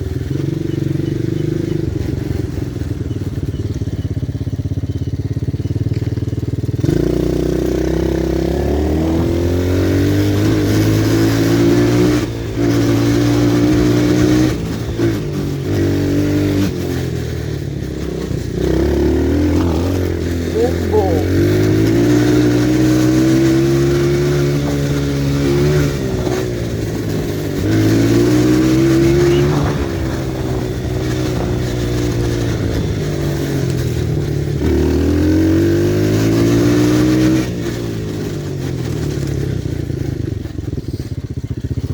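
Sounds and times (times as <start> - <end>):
pit bike engine: 0.0 - 41.9.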